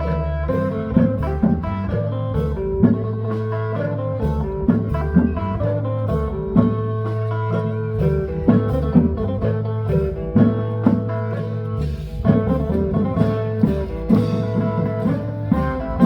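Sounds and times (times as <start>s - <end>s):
lively band music: 0.0s - 16.0s.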